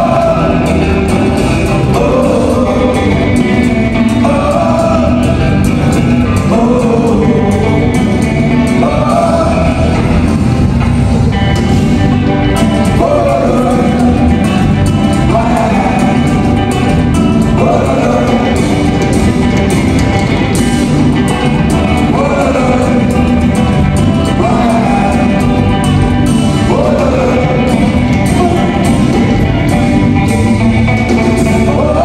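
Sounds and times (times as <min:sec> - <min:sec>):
electric guitars: 0:00.0 - 0:32.0
lead singer: 0:00.0 - 0:32.0.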